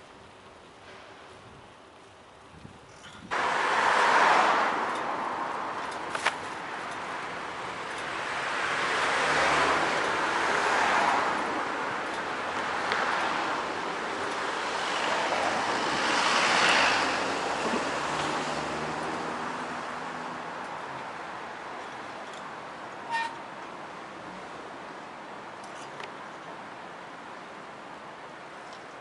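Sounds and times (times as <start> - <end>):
vehicles passing close: 3.2 - 29.0.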